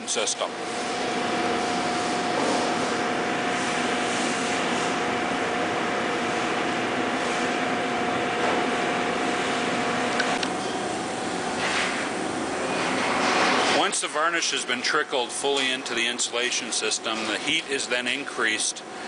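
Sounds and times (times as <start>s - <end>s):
machine hiss and hum: 0.0s - 19.0s.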